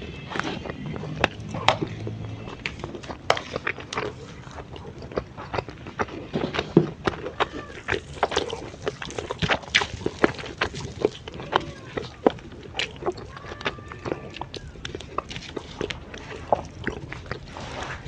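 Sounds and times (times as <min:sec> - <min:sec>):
chewing and crunching food: 0:00.0 - 0:18.0
wet mouth clicks: 0:00.3 - 0:18.0.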